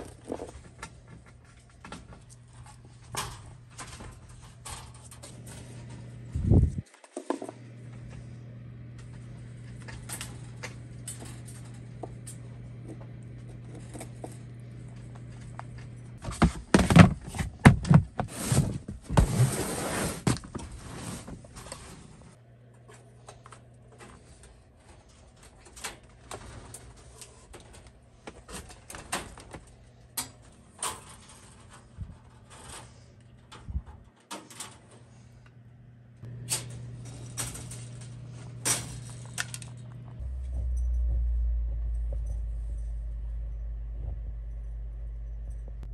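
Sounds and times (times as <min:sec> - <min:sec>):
clattering and rustling: 0:00.0 - 0:07.6, 0:09.0 - 0:35.3, 0:36.5 - 0:41.0
steady low hum: 0:00.0 - 0:45.9.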